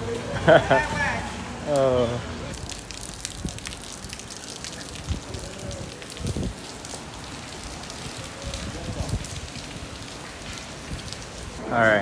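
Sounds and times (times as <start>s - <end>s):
rain on stone street: 0.0s - 12.0s.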